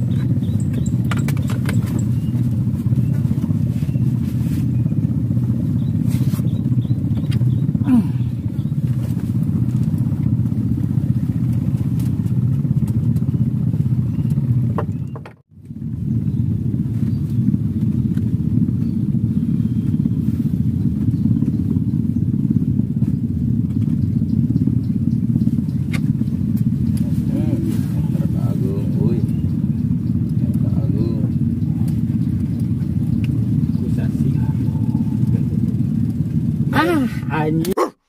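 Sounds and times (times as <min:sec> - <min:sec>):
low motor drone: 0:00.0 - 0:38.0.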